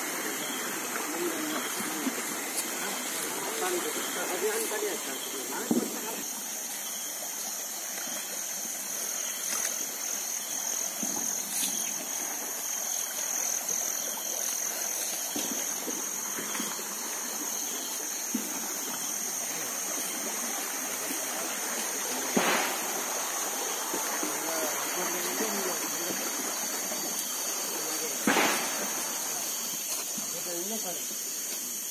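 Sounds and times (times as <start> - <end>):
rushing outdoor noise: 0.0 - 30.2.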